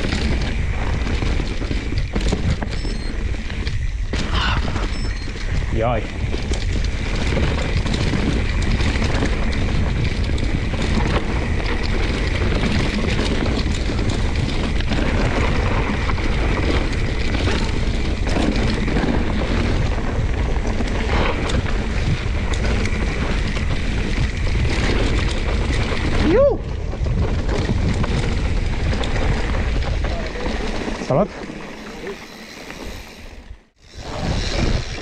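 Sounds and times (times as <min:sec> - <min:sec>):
wind buffeting microphone: 0:00.0 - 0:31.3, 0:33.7 - 0:35.0
mountain bike clattering: 0:00.0 - 0:35.0.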